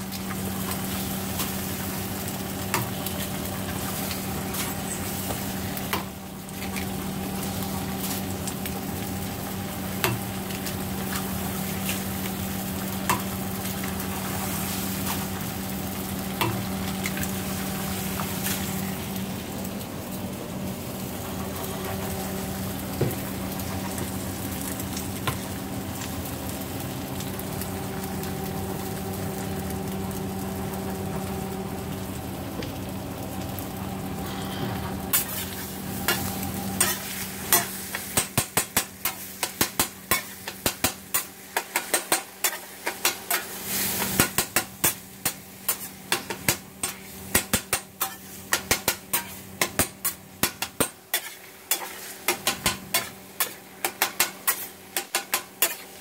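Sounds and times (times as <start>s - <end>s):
food sizzling on griddle: 0.0s - 56.0s.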